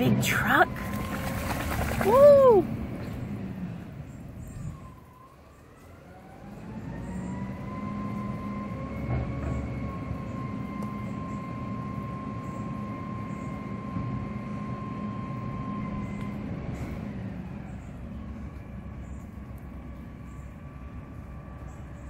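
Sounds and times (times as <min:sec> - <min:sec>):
heavy vehicle rumbling past: 0:00.0 - 0:22.0.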